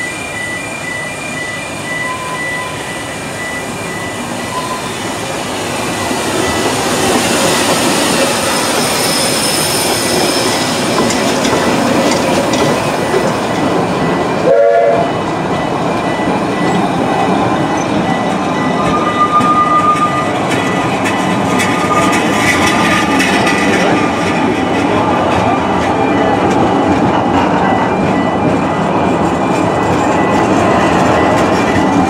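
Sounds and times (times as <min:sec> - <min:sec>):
crossing warning tone: 0:00.0 - 0:32.0
steam locomotive rolling past: 0:00.0 - 0:32.0
wheels rattling on rails: 0:00.2 - 0:32.0.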